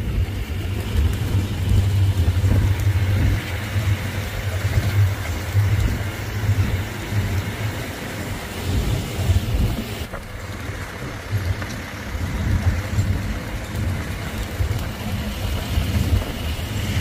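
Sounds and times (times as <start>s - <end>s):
diesel bus engine running: 0.0s - 17.0s
low rumble of the ride: 0.0s - 17.0s.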